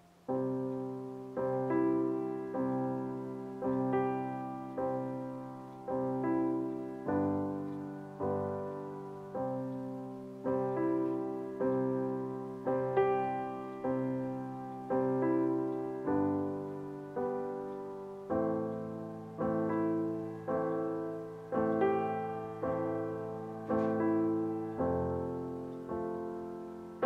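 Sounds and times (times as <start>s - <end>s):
soft piano chords: 0.0s - 27.0s.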